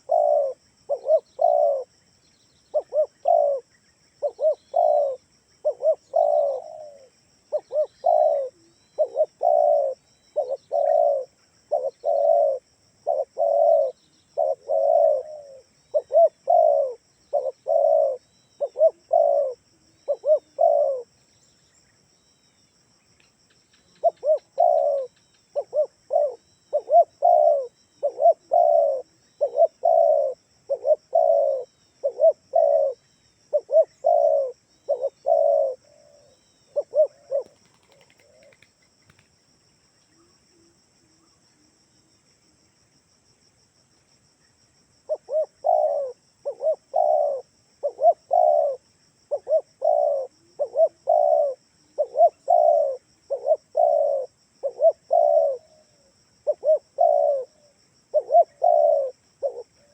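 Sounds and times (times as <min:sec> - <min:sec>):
dove cooing: 0:00.0 - 0:01.9, 0:02.7 - 0:21.2, 0:23.9 - 0:39.2, 0:45.1 - 0:59.9.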